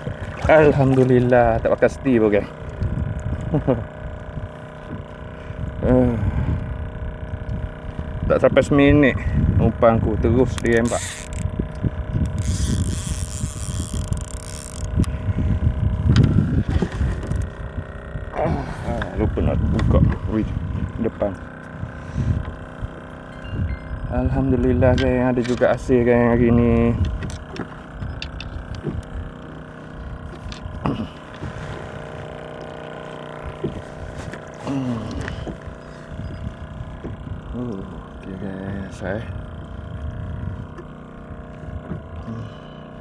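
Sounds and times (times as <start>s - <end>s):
wind buffeting microphone: 0.0s - 29.4s, 35.1s - 38.2s, 39.0s - 42.2s
water: 0.0s - 43.0s.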